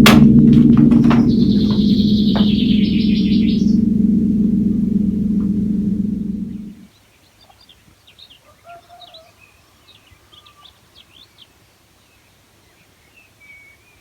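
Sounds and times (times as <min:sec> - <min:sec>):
faint outdoor hiss: 0:00.0 - 0:14.0
small birds chirping: 0:00.0 - 0:14.0.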